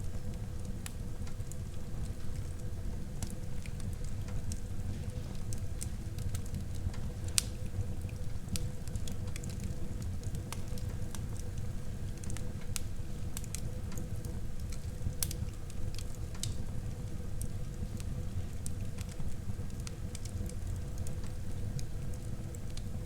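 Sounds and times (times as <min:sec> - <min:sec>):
burning wood crackles and pops: 0:00.0 - 0:23.0
low rumble of flames: 0:00.0 - 0:23.0.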